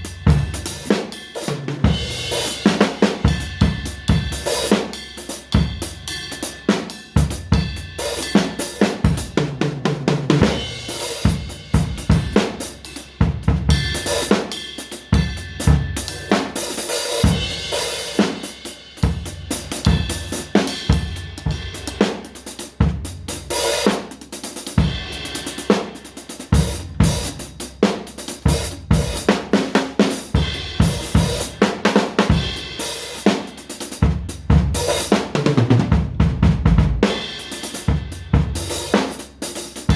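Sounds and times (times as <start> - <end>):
cymbals and hi-hat: 0.0 - 39.9.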